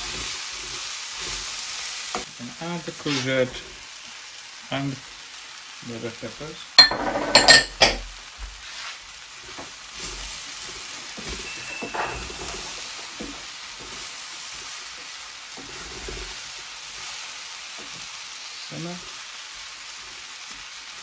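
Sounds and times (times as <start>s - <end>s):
vegetables sizzling in a pan: 0.0s - 21.0s.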